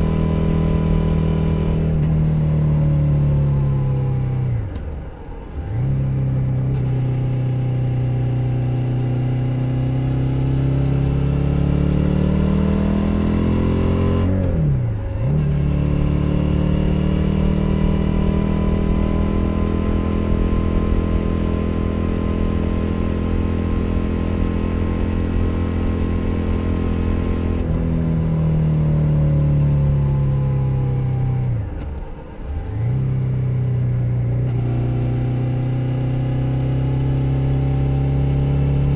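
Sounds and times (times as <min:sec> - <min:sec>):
motorcycle engine accelerating: 0:00.0 - 0:04.9, 0:05.5 - 0:38.9.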